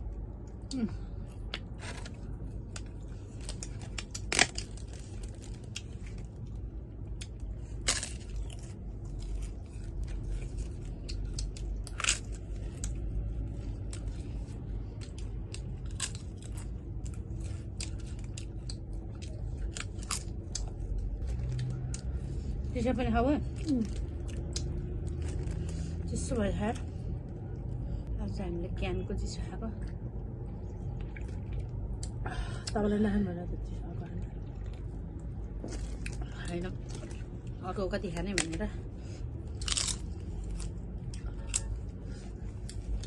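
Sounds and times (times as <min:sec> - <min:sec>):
chewing and crunching food: 0:00.0 - 0:28.2, 0:29.8 - 0:32.8, 0:33.6 - 0:43.0.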